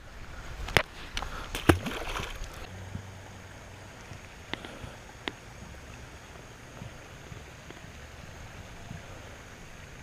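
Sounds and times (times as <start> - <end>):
faint outdoor background: 0.0 - 10.0.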